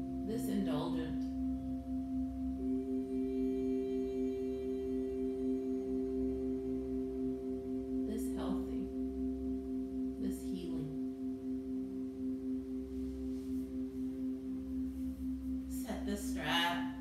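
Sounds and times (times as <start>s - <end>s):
droning ringing tones music: 0.0s - 17.0s.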